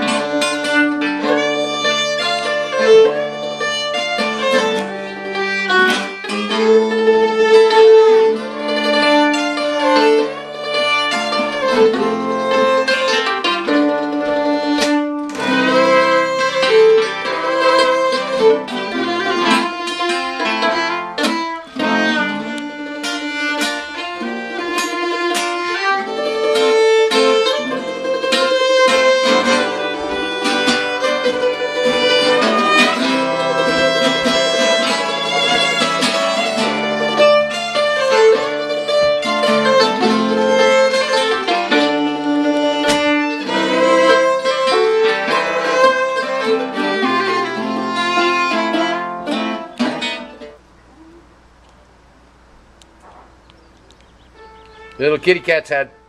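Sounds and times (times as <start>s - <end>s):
fiddle: 0.0s - 51.4s, 52.8s - 56.0s
acoustic guitar: 0.0s - 56.0s
mandolin: 0.0s - 56.0s.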